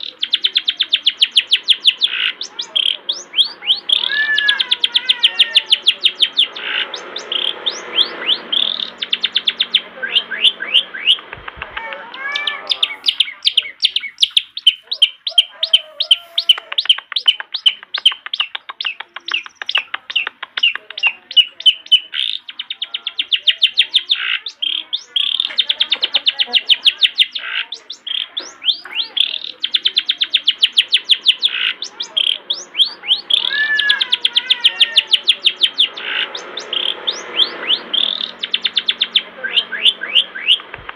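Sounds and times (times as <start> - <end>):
shrike singing chattering song: 0.0 - 40.9.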